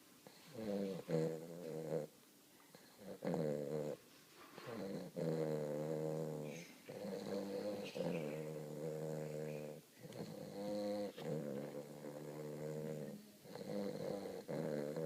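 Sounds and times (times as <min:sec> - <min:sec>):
puppy snoring: 0:00.2 - 0:15.0.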